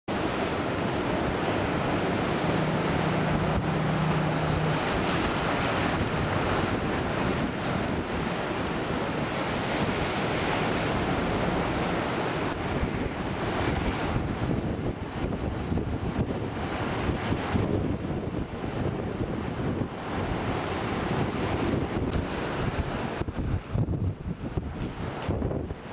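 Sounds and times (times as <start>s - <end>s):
ocean surf breaking: 0.1s - 25.9s
wind buffeting microphone: 0.1s - 25.9s.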